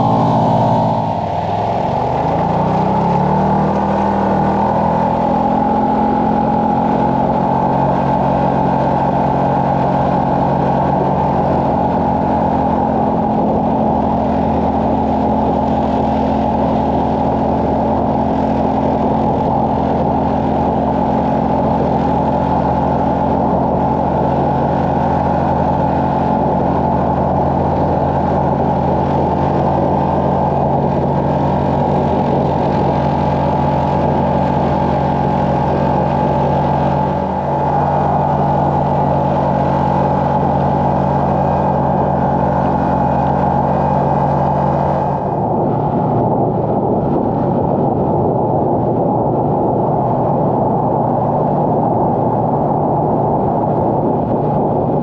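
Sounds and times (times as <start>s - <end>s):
dense rushing noise: 0.0s - 55.0s
vehicle engine running under load: 0.0s - 55.0s.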